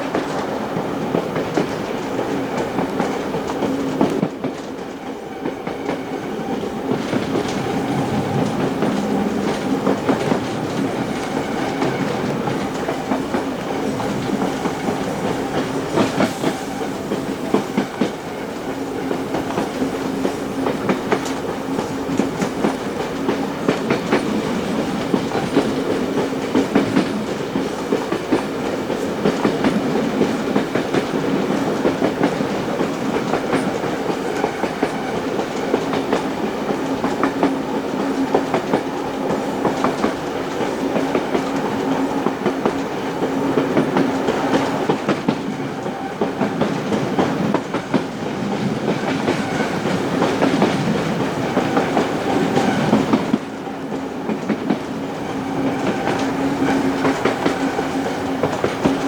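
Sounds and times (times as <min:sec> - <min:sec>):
train carriages rumbling: 0:00.0 - 0:59.0
wheels clacking over rails: 0:00.0 - 0:59.0.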